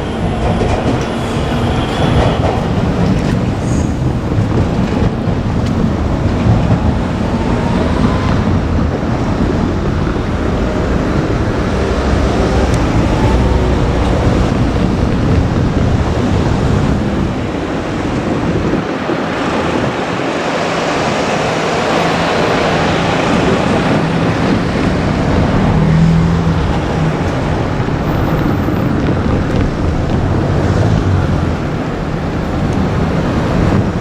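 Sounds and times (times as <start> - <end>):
train running past: 0.0 - 34.0
wind on microphone: 0.0 - 34.0.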